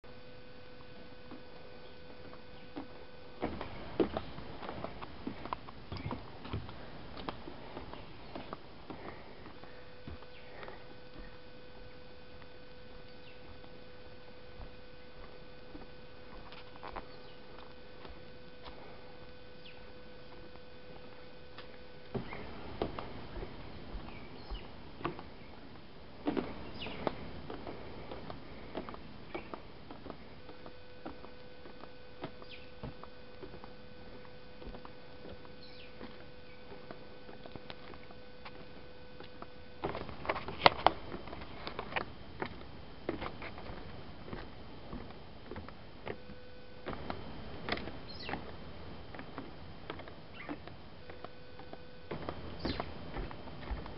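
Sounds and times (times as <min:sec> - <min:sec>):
faint steady hum: 0:00.0 - 0:53.9
footsteps on wooden boardwalk: 0:00.8 - 0:53.9.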